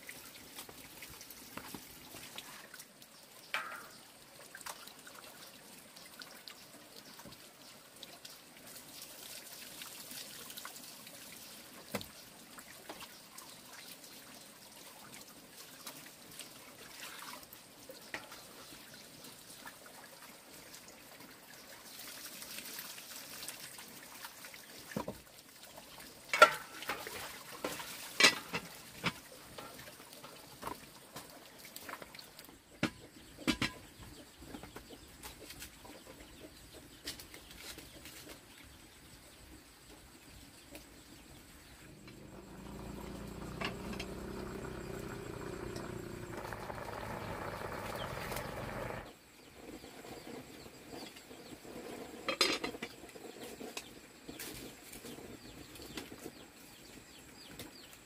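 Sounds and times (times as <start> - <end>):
water trickling faintly: 0.0 - 49.2.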